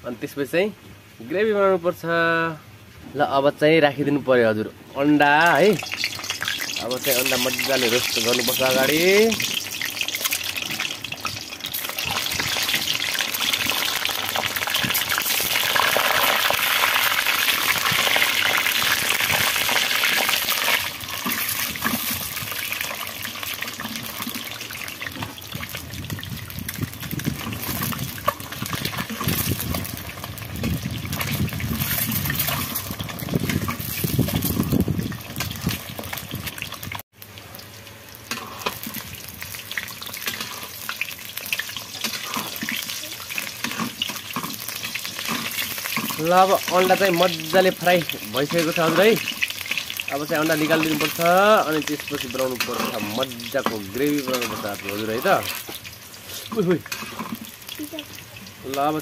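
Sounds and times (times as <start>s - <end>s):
eggs sizzling in hot oil: 5.2s - 59.0s.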